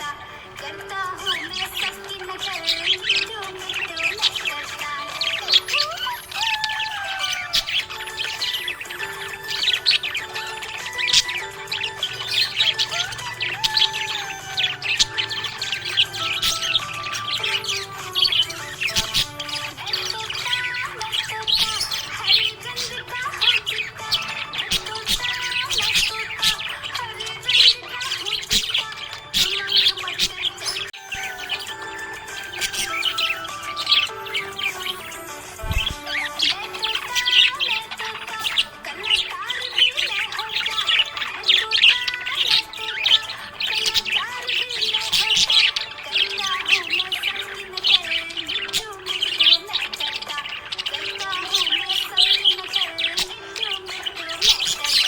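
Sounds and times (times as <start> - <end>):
budgerigar chirping and warbling: 0.0 - 55.0.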